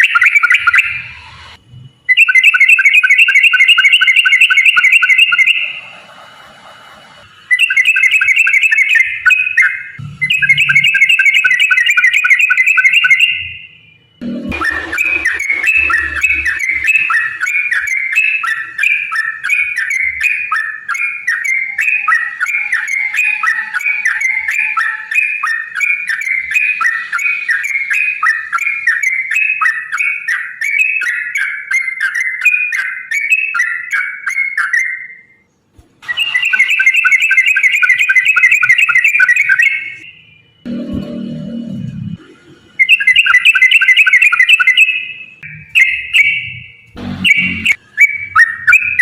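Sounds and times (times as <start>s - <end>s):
bulbul singing chattering notes: 0.0s - 1.1s, 7.5s - 35.2s, 36.1s - 41.3s, 42.8s - 49.0s.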